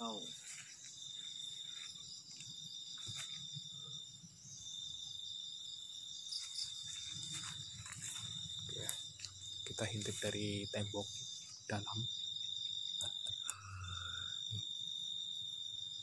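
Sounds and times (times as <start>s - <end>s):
crickets trilling: 0.0s - 16.0s
high insect buzz: 0.0s - 16.0s.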